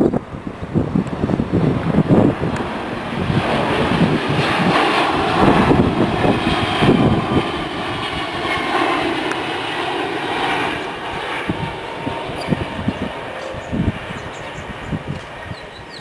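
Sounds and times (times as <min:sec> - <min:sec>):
jet plane roaring overhead: 0:00.0 - 0:16.0.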